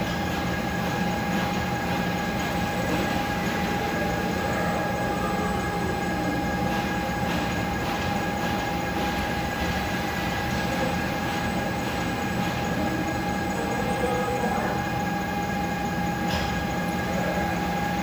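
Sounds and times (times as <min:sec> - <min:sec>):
high-pitched machine whine: 0:00.0 - 0:18.0
machinery rumble: 0:00.0 - 0:18.0.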